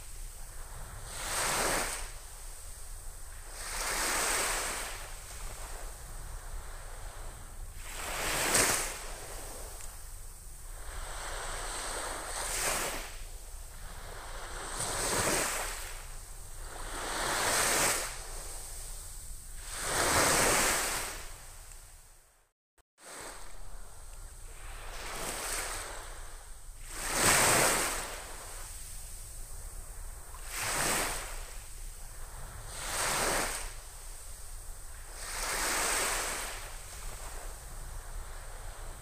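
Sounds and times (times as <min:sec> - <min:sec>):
small waves washing up beach: 0:00.0 - 0:21.6, 0:23.0 - 0:39.0.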